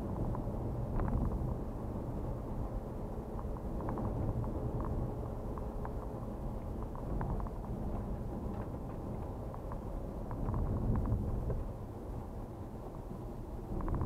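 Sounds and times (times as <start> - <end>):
light ticks and rattles: 0.0 - 14.0
rumble of tyres and engine: 0.0 - 14.0.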